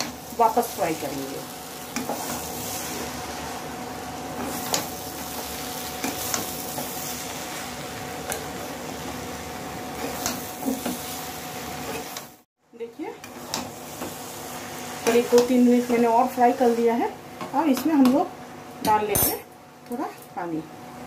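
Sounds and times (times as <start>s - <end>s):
food sizzling in a pan: 0.0s - 18.4s.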